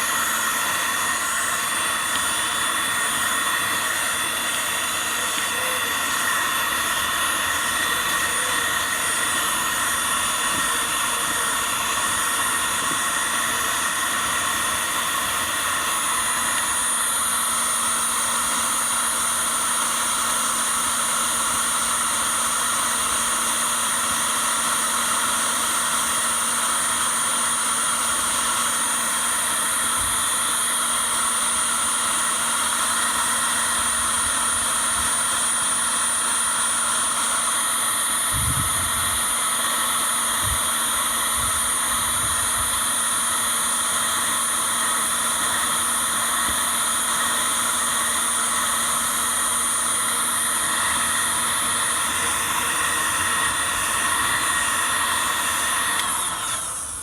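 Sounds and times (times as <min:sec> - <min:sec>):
motor hiss and whine: 0:00.0 - 0:57.0.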